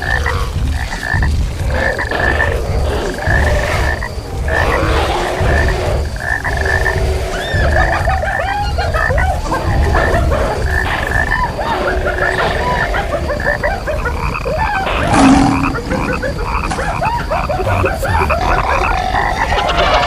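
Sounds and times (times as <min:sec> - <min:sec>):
low rumble: 0:00.0 - 0:19.6
chorus of animal calls: 0:00.0 - 0:20.0
loud animal cry: 0:01.6 - 0:20.0.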